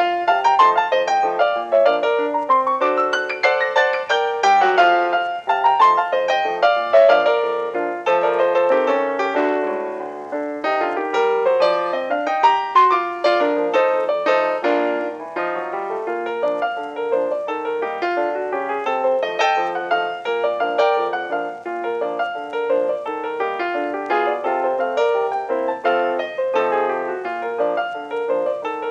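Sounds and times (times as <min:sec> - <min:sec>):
solo piano music: 0:00.0 - 0:28.9.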